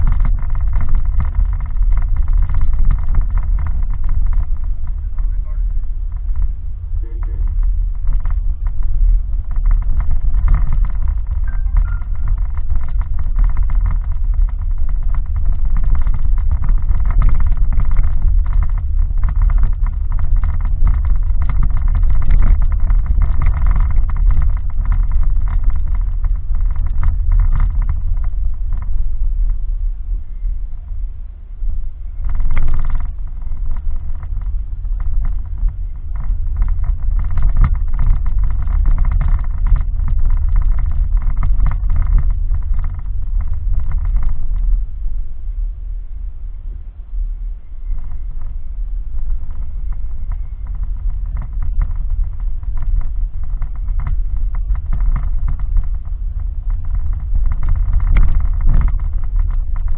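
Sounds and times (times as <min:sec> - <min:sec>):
knocks and rattles: 0:00.0 - 0:29.6, 0:32.2 - 0:45.0, 0:49.2 - 0:59.9
car engine and road rumble: 0:00.0 - 0:59.9.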